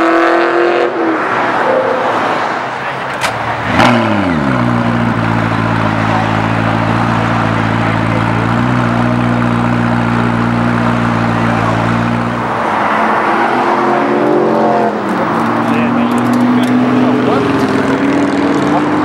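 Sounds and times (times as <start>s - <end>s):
car engine revving and idling: 2.5s - 19.0s.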